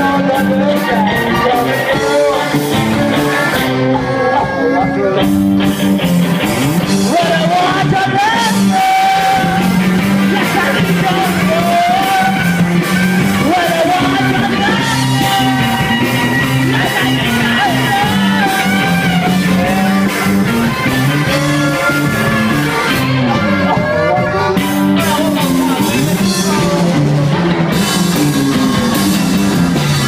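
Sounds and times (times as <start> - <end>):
electric guitars: 0.0 - 30.0
person singing: 0.0 - 30.0.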